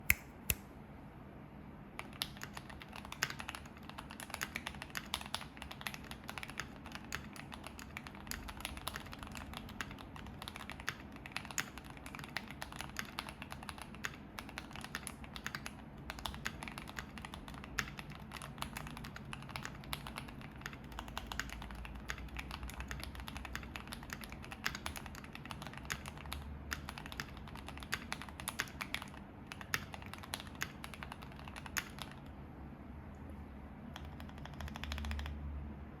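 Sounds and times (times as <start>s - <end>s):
mechanical keyboard typing: 2.0s - 32.3s, 33.9s - 35.4s.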